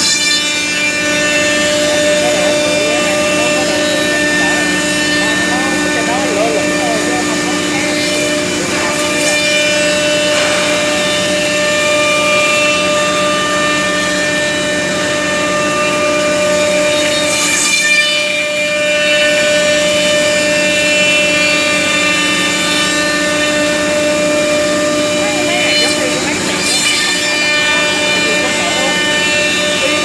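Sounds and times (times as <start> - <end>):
router cutting wood: 0.0 - 30.0
wood router spindles whining: 0.0 - 30.0.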